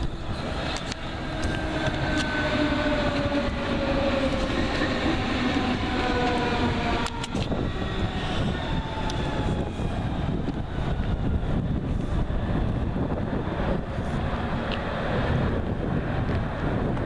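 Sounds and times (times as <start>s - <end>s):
electric train traction whine: 0.0s - 17.0s
wheels rumbling on rail: 0.0s - 17.0s.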